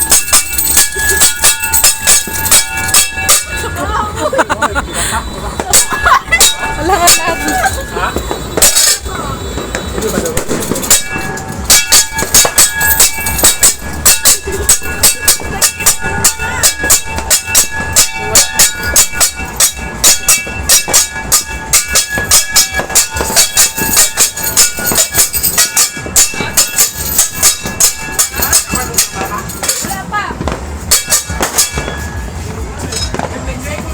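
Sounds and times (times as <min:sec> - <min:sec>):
metal clanging: 0:00.0 - 0:33.9.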